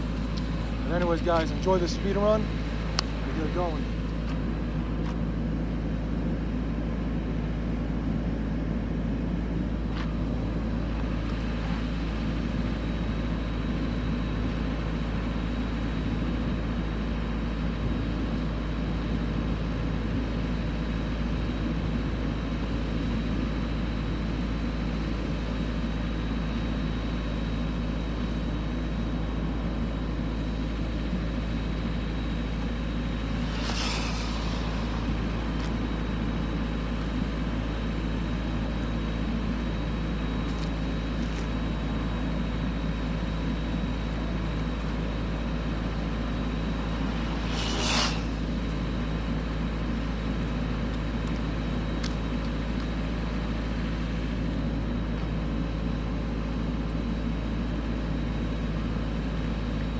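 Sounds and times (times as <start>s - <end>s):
low hum: 0.0s - 57.0s
outdoor background rumble: 0.0s - 59.9s.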